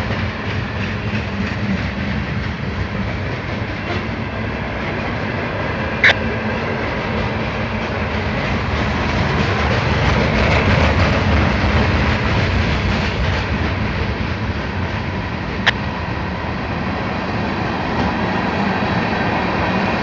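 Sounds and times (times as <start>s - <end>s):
train cars rumbling and rattling: 0.0s - 20.0s.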